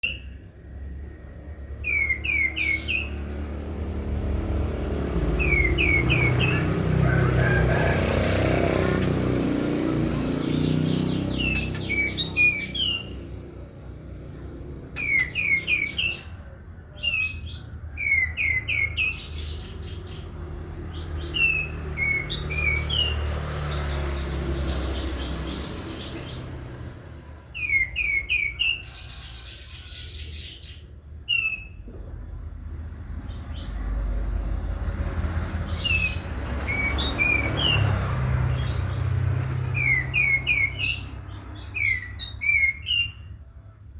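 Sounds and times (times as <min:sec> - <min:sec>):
songbird chirping: 0:00.0 - 0:32.2, 0:33.0 - 0:43.6.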